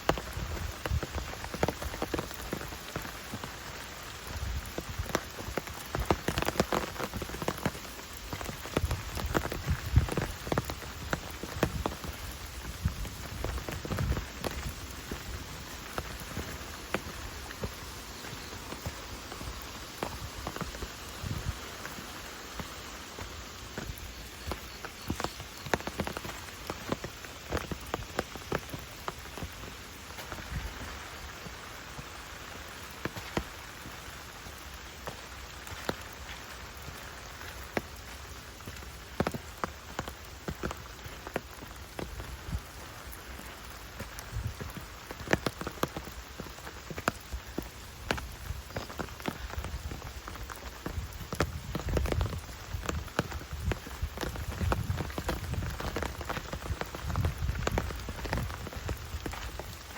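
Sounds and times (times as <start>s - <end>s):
rain pattering in woodland: 0.0s - 59.9s
sharp raindrops landing: 0.0s - 59.9s.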